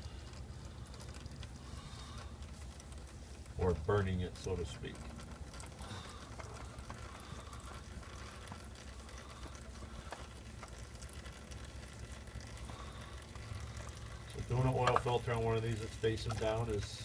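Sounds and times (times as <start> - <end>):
faint drip ticks: 0.0 - 17.0
oil pattering into a pan: 0.0 - 17.0.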